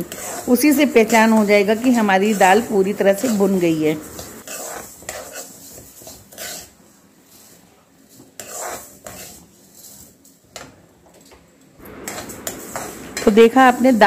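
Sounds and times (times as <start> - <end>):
metal spoon scraping: 0.0 - 10.7, 12.0 - 14.0.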